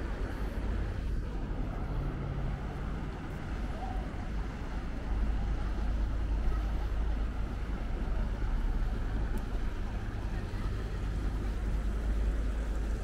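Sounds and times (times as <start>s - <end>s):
higher background noise: 0.0s - 13.0s
low city rumble: 0.0s - 13.0s.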